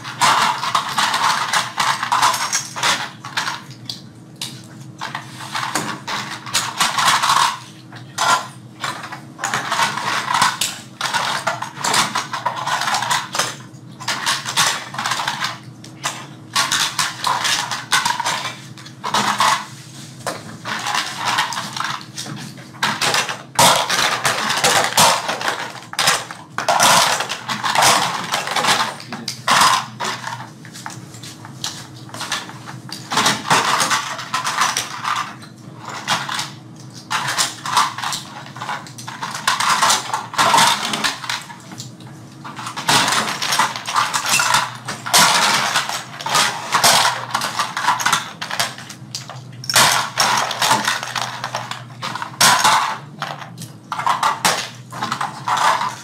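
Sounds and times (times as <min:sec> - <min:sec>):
plastic toy parts clattering: 0:00.0 - 0:03.7, 0:05.0 - 0:19.8, 0:20.6 - 0:31.0, 0:31.6 - 0:41.8, 0:42.4 - 0:56.0.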